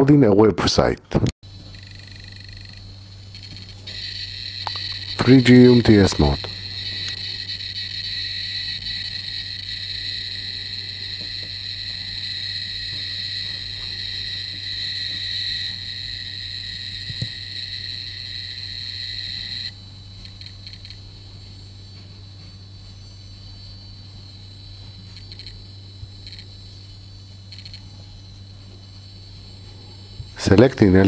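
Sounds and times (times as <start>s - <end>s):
faint hum: 0.0s - 31.0s
high-pitched electronic buzz: 1.4s - 31.0s.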